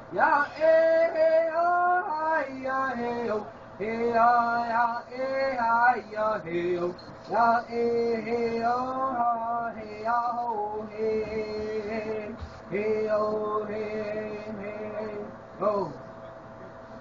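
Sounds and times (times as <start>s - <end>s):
man singing: 0.1s - 16.0s.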